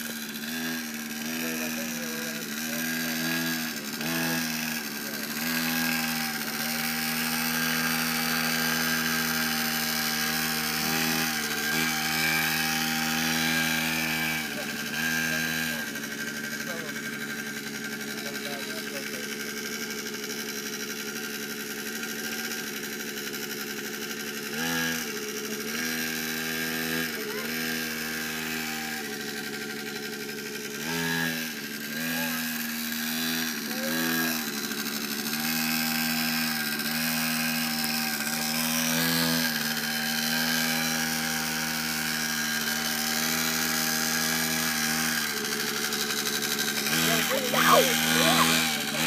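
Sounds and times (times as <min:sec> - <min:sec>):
small two-stroke engine revving: 0:00.0 - 0:49.0.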